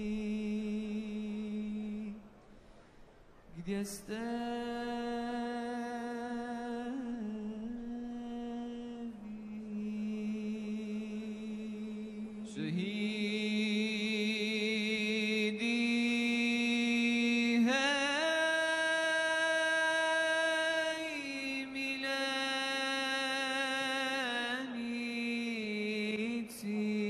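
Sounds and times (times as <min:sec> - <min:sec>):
chanted vocal music: 0:00.0 - 0:02.4, 0:03.5 - 0:27.0.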